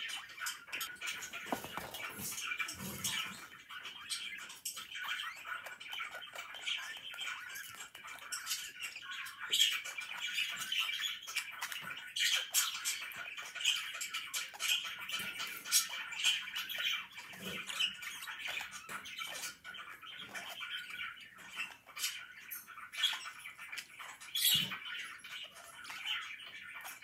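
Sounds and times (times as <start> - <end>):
budgerigars chirping: 0.0 - 27.0.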